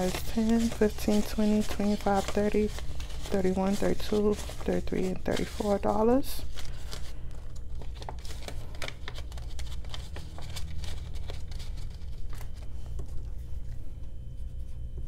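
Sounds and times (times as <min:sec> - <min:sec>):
paper banknotes rustling: 0:00.0 - 0:15.0
steady low hum: 0:00.0 - 0:15.0.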